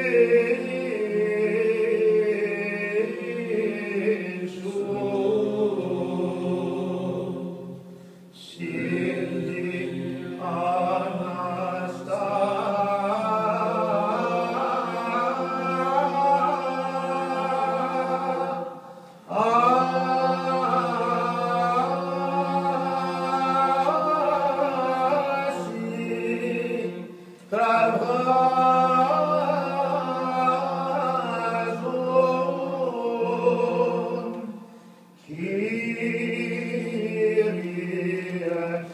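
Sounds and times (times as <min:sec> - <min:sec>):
choir chanting a cappella: 0:00.0 - 0:38.9.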